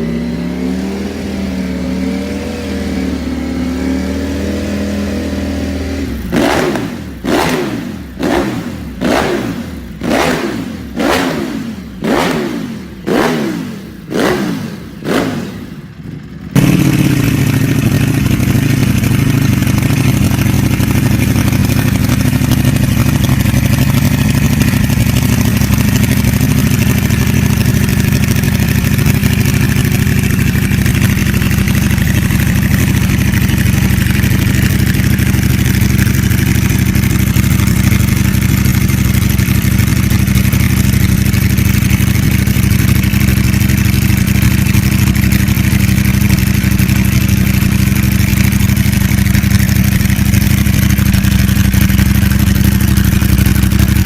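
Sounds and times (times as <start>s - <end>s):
loud steady engine note: 0.0s - 54.0s
motorcycle engine revving: 0.0s - 54.0s.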